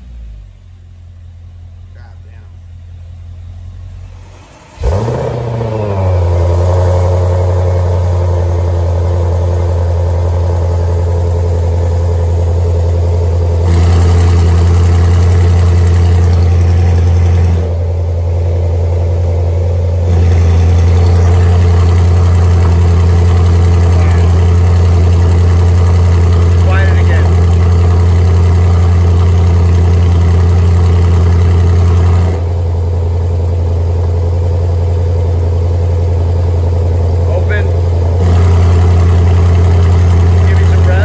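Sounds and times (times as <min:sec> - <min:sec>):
car engine starting and idling: 0:00.0 - 0:41.0.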